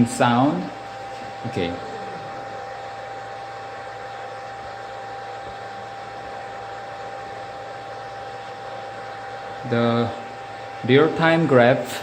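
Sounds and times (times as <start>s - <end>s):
hot-air blower rushing: 0.0s - 12.0s.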